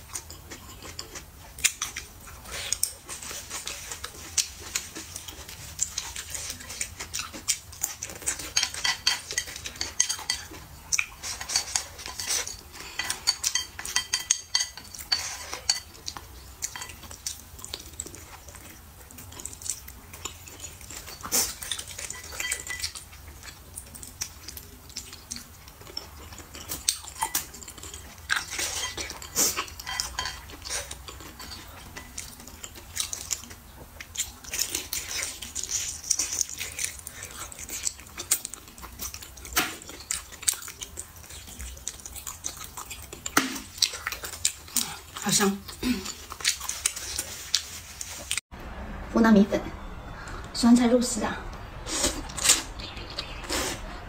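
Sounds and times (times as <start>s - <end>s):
person chewing: 0.0s - 48.4s, 51.9s - 54.0s
utensils clinking against a bowl: 0.0s - 48.4s.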